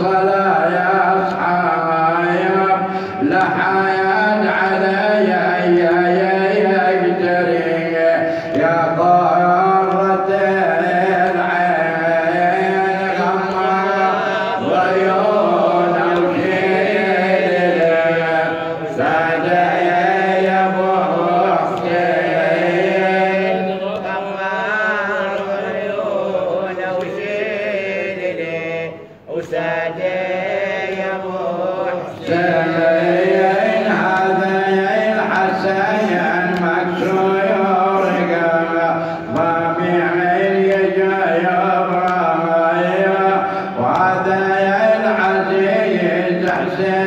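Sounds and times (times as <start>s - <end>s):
man chanting into a microphone: 0.0s - 47.0s.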